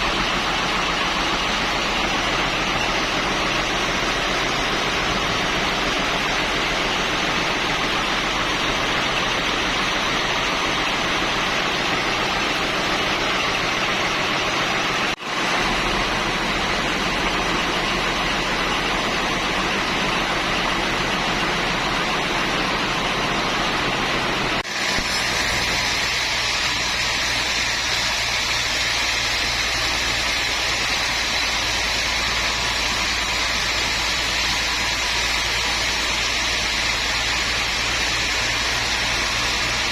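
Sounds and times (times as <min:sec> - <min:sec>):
woodworking machinery humming: 0:00.0 - 0:39.9.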